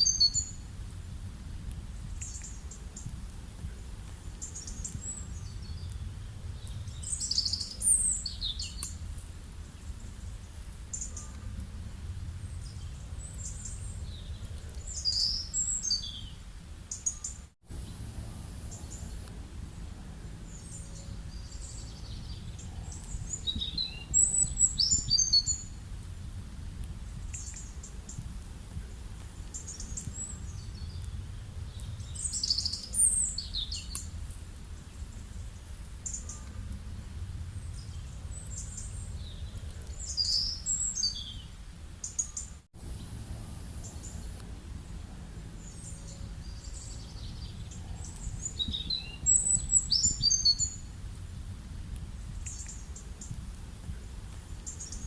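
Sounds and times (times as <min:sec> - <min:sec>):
low outdoor rumble: 0:00.0 - 0:55.0
songbirds chirping: 0:00.0 - 0:55.0.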